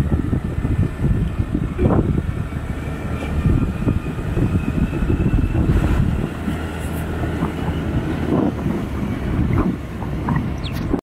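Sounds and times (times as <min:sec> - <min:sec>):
vehicle running rumble: 0:00.0 - 0:11.0
wind buffeting microphone: 0:00.0 - 0:11.0.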